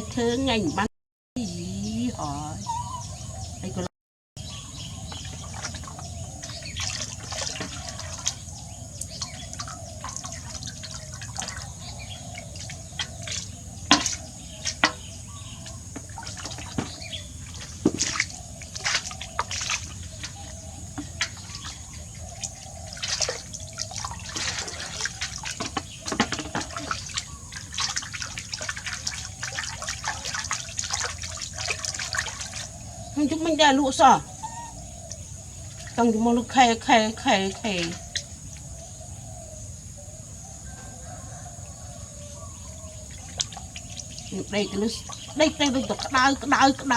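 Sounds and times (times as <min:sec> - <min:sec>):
bathwater splashing and dripping: 0:04.8 - 0:38.8, 0:42.9 - 0:46.9.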